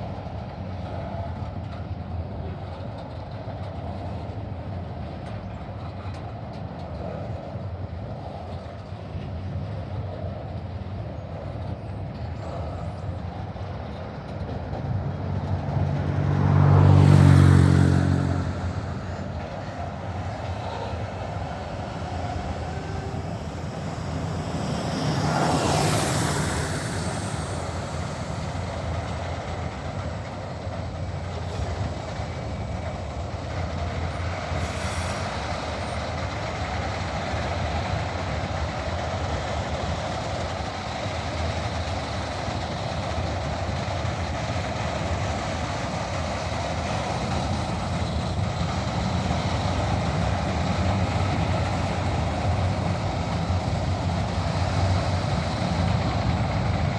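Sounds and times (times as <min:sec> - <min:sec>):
diesel locomotive drone: 0:00.0 - 0:56.9
rolling train rumble: 0:00.0 - 0:56.9.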